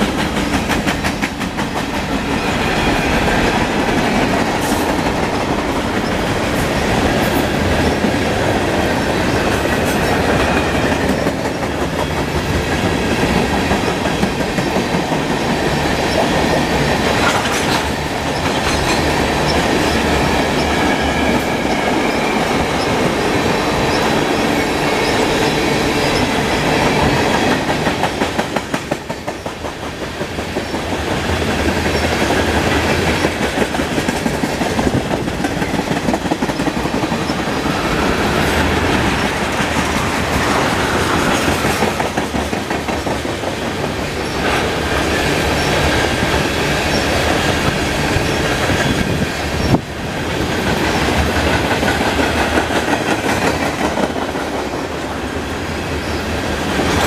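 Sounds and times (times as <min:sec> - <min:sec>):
freight train wheels clacking: 0:00.0 - 0:57.0.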